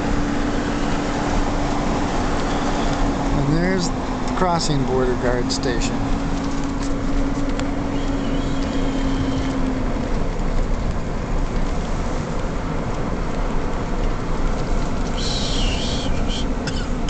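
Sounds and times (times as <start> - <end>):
vehicle cabin road noise: 0.0 - 17.0.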